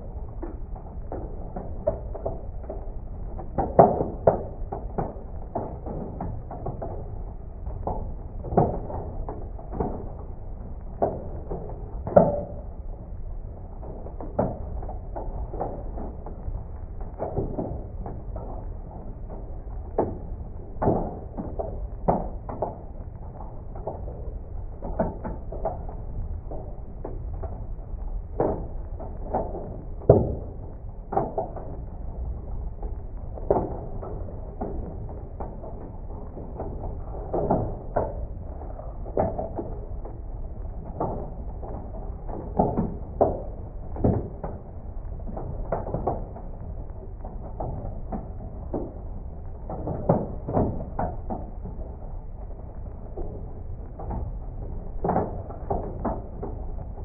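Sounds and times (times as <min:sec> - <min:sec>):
slowed hailstones thudding: 0:00.0 - 0:57.0
steady low rumble: 0:00.0 - 0:57.0.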